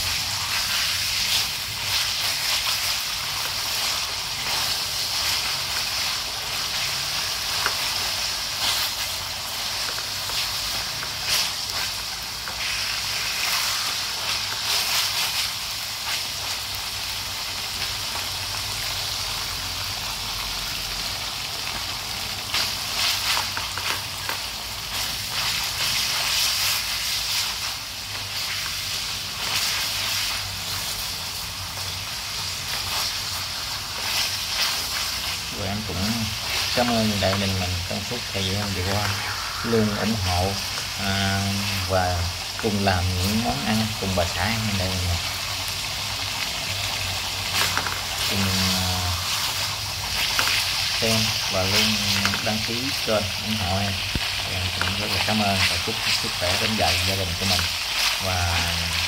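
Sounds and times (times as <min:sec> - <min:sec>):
oil crackling and spattering: 0:00.0 - 0:59.0
pork sizzling in hot oil: 0:00.0 - 0:59.0.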